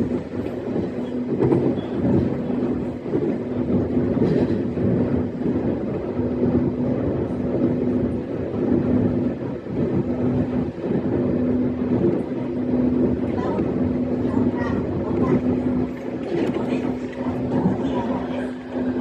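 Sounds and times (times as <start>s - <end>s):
electric train hum: 0.0s - 19.0s
train wheels rumbling on track: 0.0s - 19.0s.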